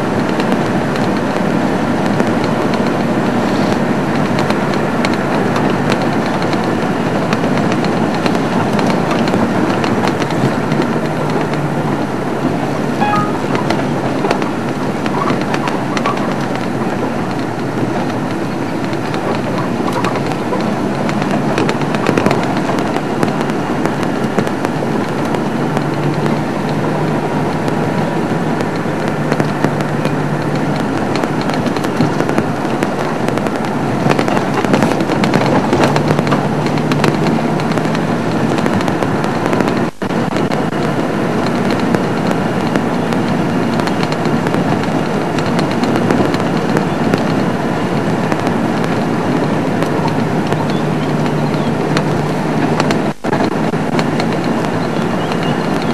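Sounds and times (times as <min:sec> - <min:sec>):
low engine drone: 0:00.0 - 0:55.9
vehicle rattling on dirt track: 0:00.0 - 0:55.9.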